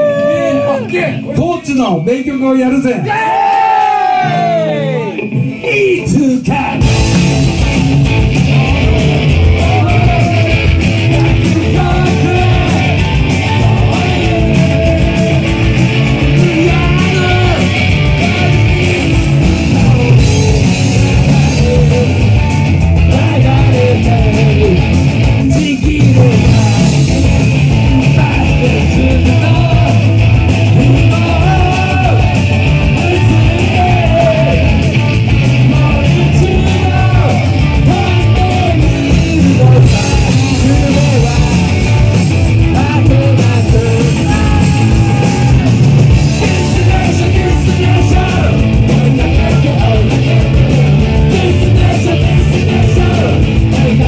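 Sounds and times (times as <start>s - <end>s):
drums: 0.0s - 54.0s
electric bass: 0.0s - 54.0s
electric guitars: 3.0s - 54.0s
person singing: 8.4s - 35.0s, 35.6s - 54.0s.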